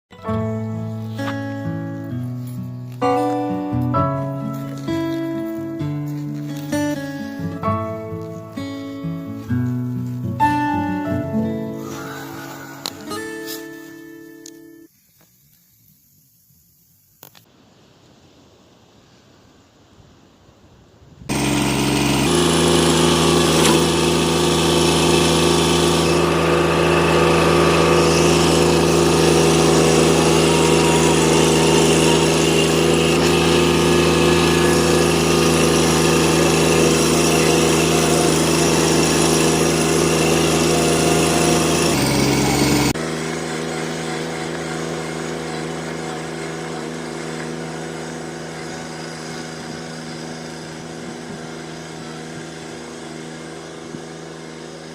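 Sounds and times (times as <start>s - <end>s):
engine running: 0.2s - 14.9s, 21.3s - 54.9s.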